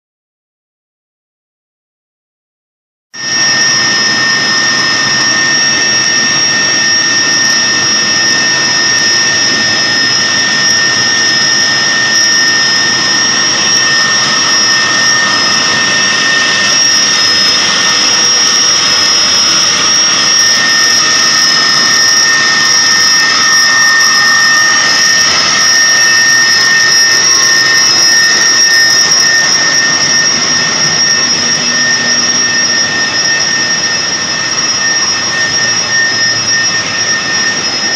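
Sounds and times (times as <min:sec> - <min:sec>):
high-pitched machine whine: 0:03.2 - 0:37.9
machinery running: 0:03.2 - 0:37.9.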